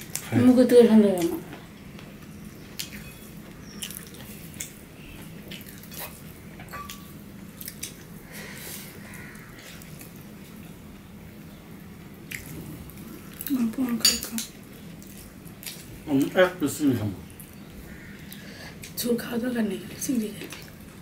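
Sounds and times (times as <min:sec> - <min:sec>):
people chewing food: 0:00.0 - 0:21.0.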